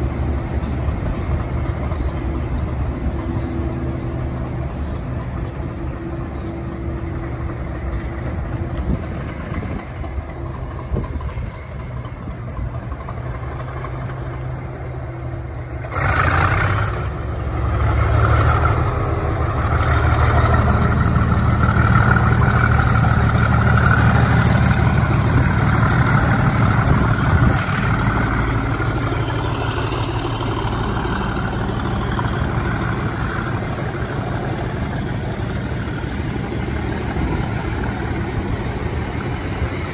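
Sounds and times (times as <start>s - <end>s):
diesel locomotive engine: 0.0s - 39.9s.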